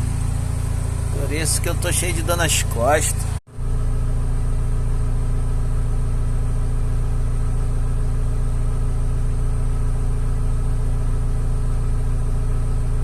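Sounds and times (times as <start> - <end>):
crane diesel engine droning: 0.0 - 13.0.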